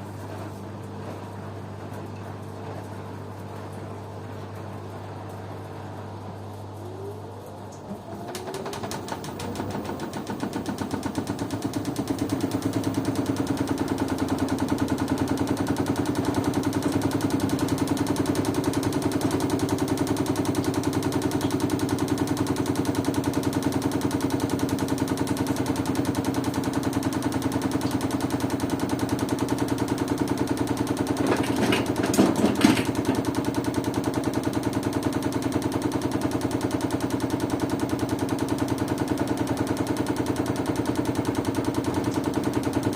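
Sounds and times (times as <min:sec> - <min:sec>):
washing machine drum spinning: 0:00.0 - 0:42.9.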